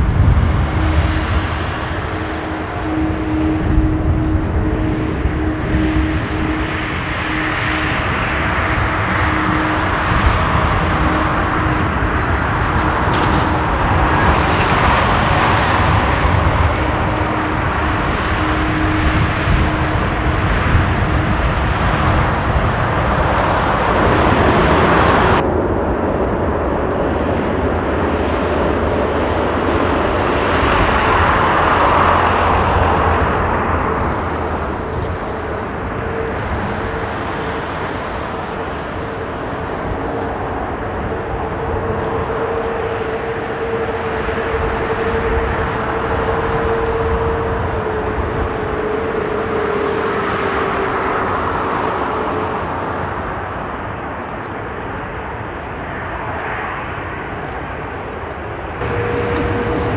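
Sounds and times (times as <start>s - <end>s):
faint jet whine: 0.0s - 59.9s
jet engine hum and rumble: 0.0s - 59.9s.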